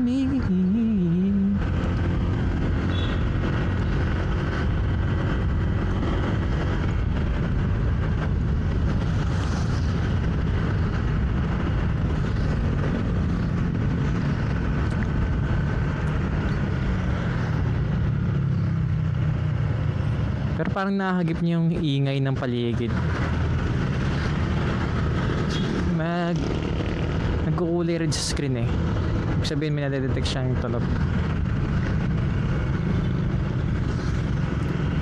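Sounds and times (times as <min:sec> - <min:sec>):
motorcycle engine: 0:00.0 - 0:20.6, 0:22.9 - 0:35.0
road and wind rumble: 0:00.0 - 0:35.0
surrounding traffic noise: 0:00.0 - 0:35.0.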